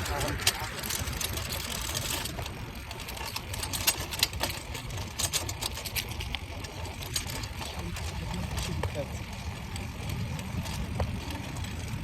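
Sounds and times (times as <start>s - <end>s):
bicycle chain and gears clicking: 0.0s - 12.0s
tyres rumbling: 0.0s - 12.0s
wind rumble: 0.0s - 12.0s.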